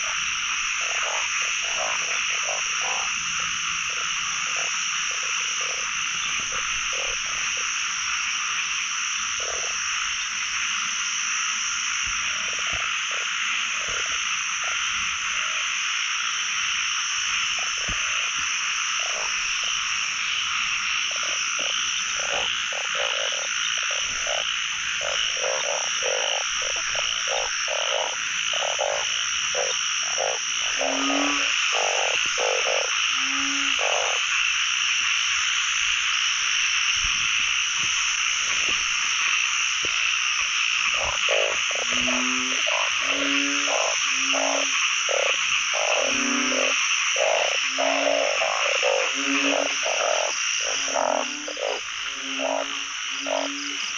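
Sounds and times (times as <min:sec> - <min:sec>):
frogs croaking: 0:00.0 - 0:53.9
high-pitched frog chorus: 0:00.0 - 0:53.9.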